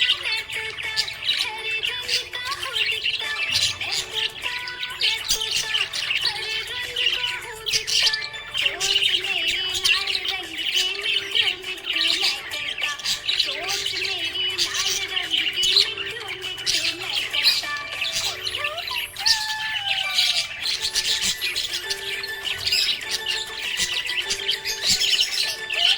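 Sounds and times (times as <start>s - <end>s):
background music with slow melody: 0.0s - 25.9s
budgerigars chirping and squawking: 0.0s - 25.9s.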